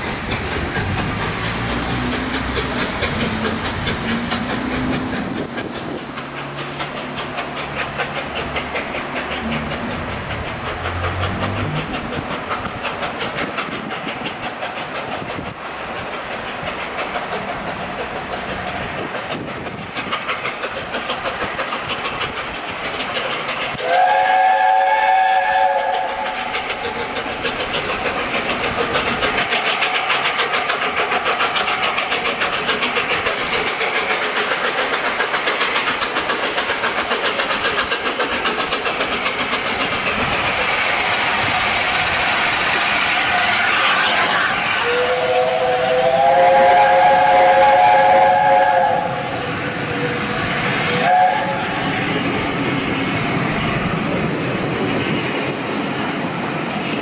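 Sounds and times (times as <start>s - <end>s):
steam locomotive exhaust: 0.0s - 57.0s
wheels on rails: 0.0s - 57.0s.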